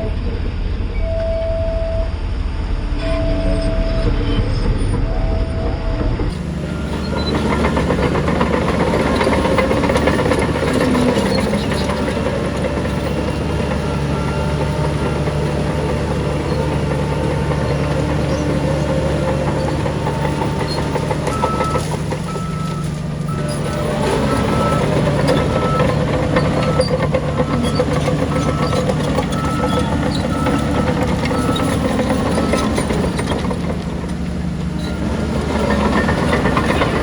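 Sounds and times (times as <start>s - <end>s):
bulldozer diesel engine running: 0.0s - 37.0s
steel tracks clanking and squealing: 2.5s - 37.0s.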